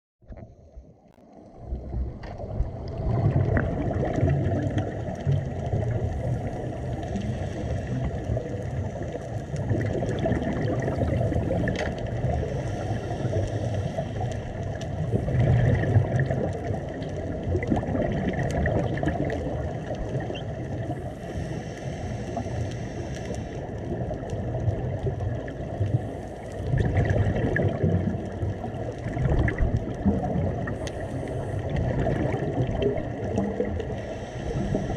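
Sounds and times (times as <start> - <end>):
muffled underwater rush: 0.2 - 34.9
gurgling bubbles: 0.3 - 34.9.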